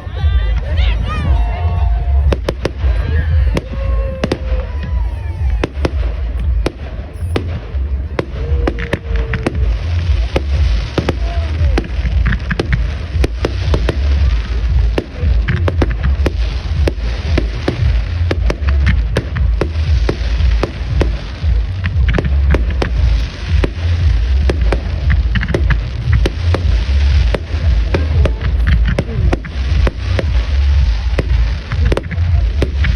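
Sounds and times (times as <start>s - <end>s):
fireworks bangs and crackles: 0.0s - 32.9s
steady low rumble: 0.0s - 32.9s.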